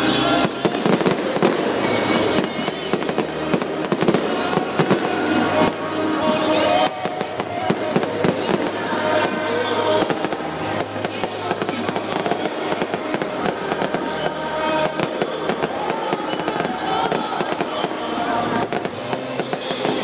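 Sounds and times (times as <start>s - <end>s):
fireworks bangs and crackling: 0.0s - 20.0s
music playing: 0.0s - 20.0s.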